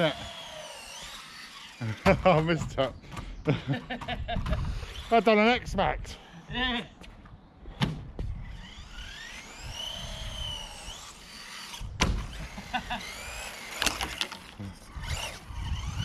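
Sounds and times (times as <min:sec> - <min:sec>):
electric motor whining: 0:00.0 - 0:06.6, 0:08.1 - 0:16.0.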